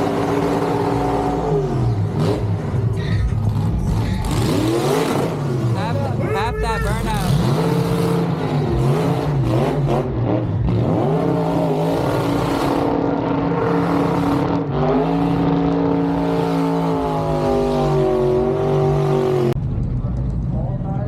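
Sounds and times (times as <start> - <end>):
vehicle engine revving: 0.0 - 20.7.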